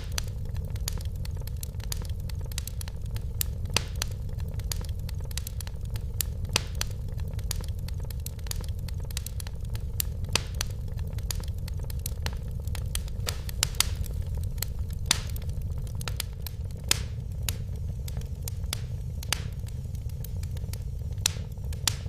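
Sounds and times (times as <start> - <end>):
low fire rumble: 0.0 - 22.0
wood fire crackling and popping: 0.0 - 22.0.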